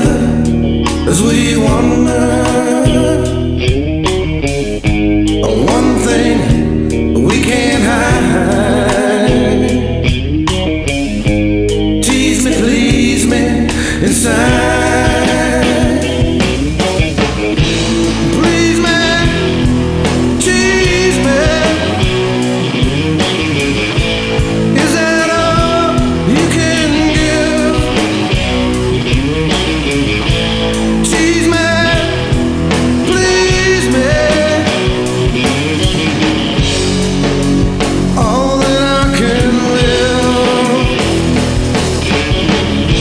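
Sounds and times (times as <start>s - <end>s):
rock song with singing: 0.0s - 43.0s.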